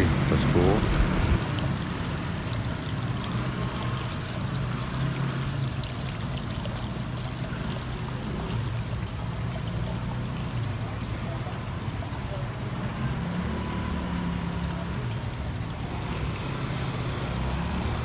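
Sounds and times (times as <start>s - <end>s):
waterfall splashing into pond: 0.0s - 18.0s.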